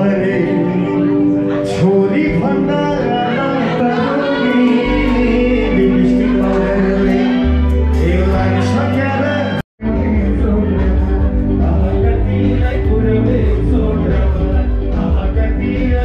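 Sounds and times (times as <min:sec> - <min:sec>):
live band with singer: 0:00.0 - 0:16.0.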